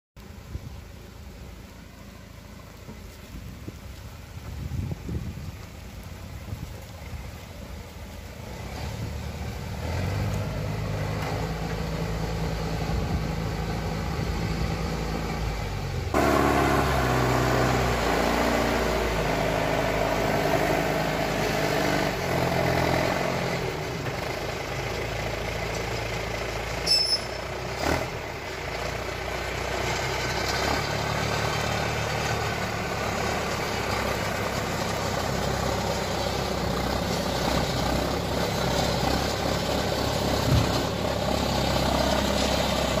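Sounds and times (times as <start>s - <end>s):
diesel engine under load: 0.2s - 43.0s.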